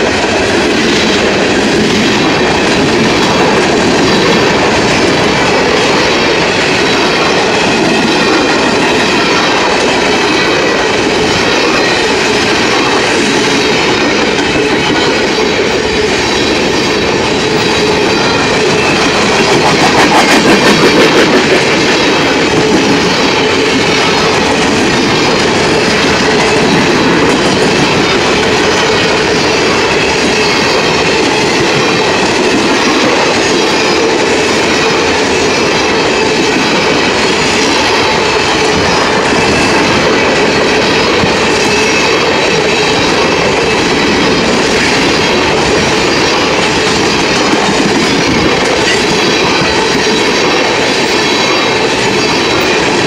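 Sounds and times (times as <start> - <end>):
freight train wheels clattering: 0.0 - 53.0.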